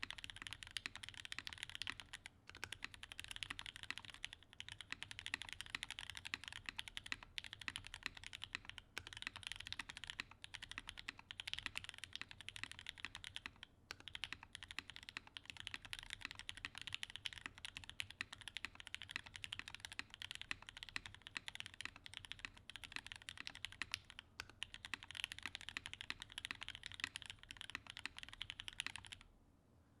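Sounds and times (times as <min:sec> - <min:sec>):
mechanical keyboard typing: 0:00.0 - 0:29.2.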